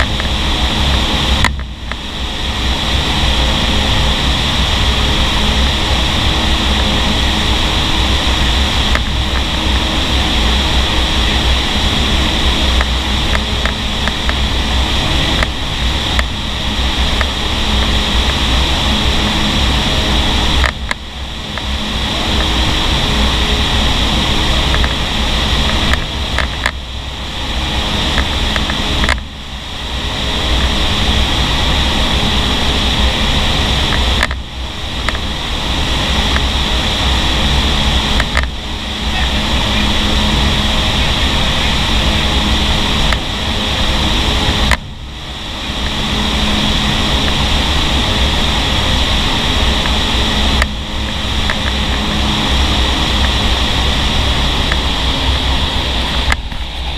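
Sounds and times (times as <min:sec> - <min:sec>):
air buffeting the microphone: 0:00.0 - 0:56.9
rushing air in wind tunnel: 0:00.0 - 0:56.9.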